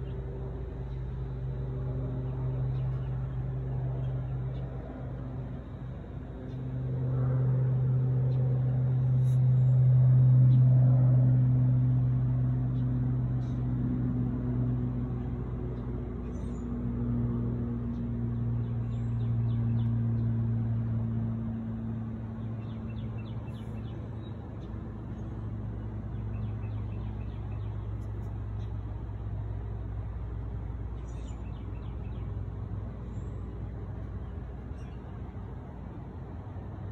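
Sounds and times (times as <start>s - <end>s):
low motor hum: 0.0s - 36.9s.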